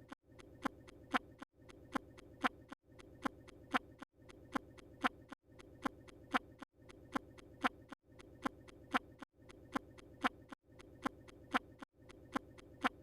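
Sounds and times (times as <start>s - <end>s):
sharp ticks: 0.0s - 13.0s.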